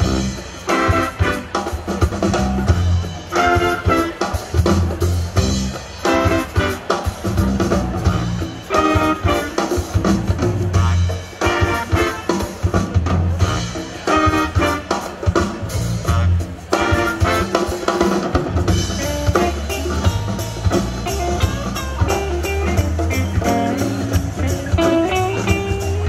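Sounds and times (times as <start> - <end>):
bass: 0.0 - 26.0
drum kit: 0.0 - 26.0
electric guitars: 0.0 - 26.0
horn riffs: 0.0 - 26.0.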